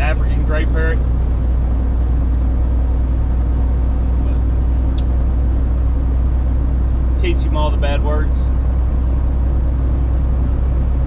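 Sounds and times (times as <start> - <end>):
diesel truck engine drone: 0.0 - 11.0
road noise: 0.0 - 11.0.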